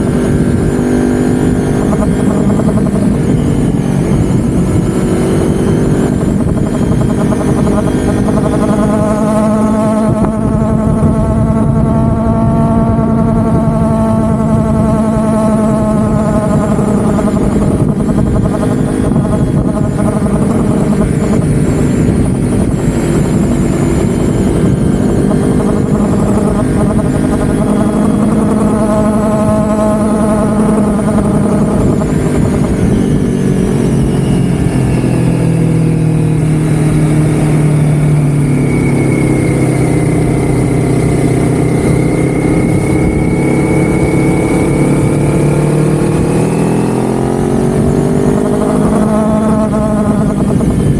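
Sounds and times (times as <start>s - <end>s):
faint whine: 0.0s - 50.9s
vehicle engine running: 0.0s - 50.9s.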